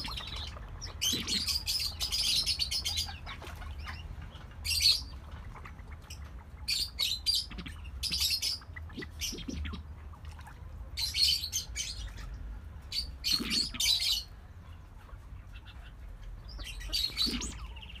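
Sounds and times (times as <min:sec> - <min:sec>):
ducks squeaky calls: 0:00.0 - 0:14.4, 0:15.0 - 0:18.0.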